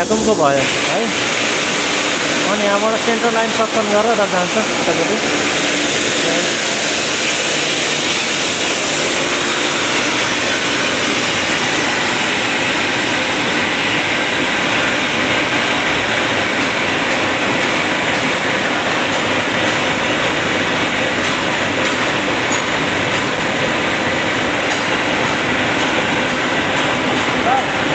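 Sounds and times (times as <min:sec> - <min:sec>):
air compressors running: 0:00.0 - 0:27.9.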